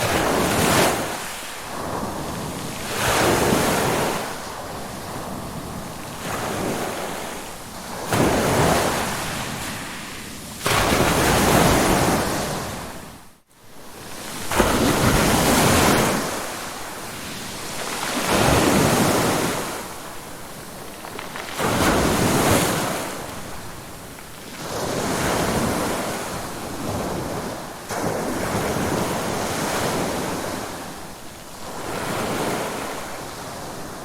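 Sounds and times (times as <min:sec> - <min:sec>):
ocean waves breaking: 0:00.0 - 0:13.2, 0:14.1 - 0:34.0.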